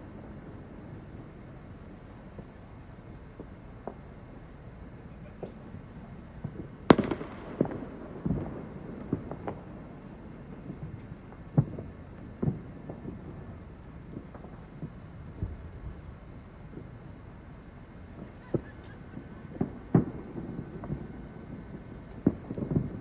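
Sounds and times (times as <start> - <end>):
fireworks bangs and pops: 0.0 - 4.5, 5.1 - 17.2, 17.9 - 23.0.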